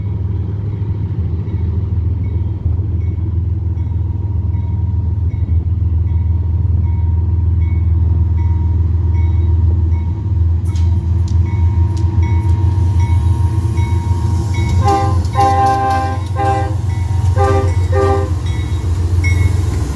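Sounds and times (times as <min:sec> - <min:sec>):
diesel locomotive rumbling: 0:00.0 - 0:19.9.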